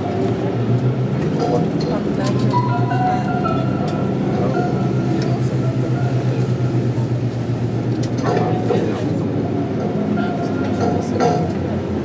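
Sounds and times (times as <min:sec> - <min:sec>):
coach engine drone: 0:00.0 - 0:12.0
road rumble: 0:00.0 - 0:12.0.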